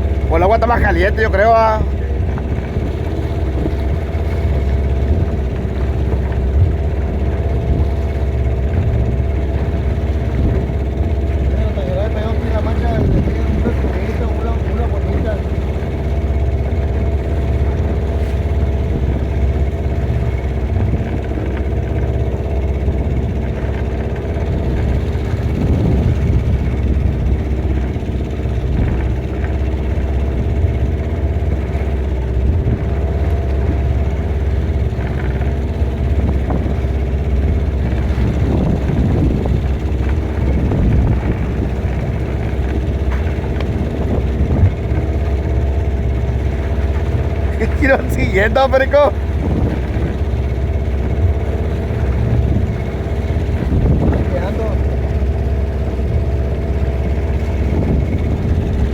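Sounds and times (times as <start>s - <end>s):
boat engine droning: 0.0s - 58.9s.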